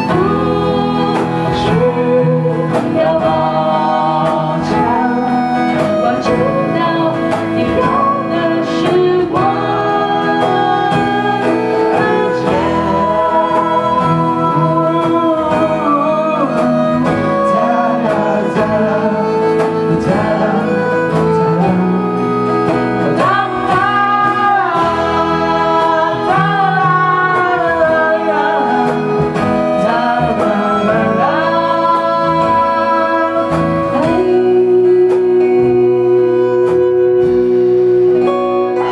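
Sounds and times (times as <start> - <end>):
guitar strummed and plucked: 0.0 - 38.9
person singing: 0.0 - 38.9.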